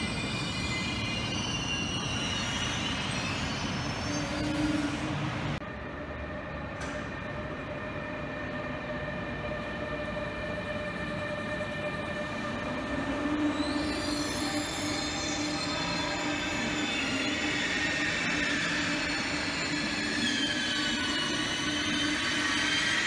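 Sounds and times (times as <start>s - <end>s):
wheels squealing on rails: 0.0s - 5.6s, 8.0s - 23.0s
electric train traction hum: 0.0s - 23.0s.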